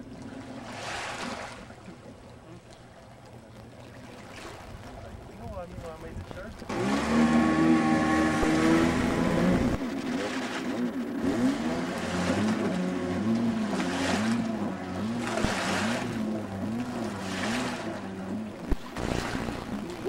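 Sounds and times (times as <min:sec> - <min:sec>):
jet ski engine: 0:00.0 - 0:20.0.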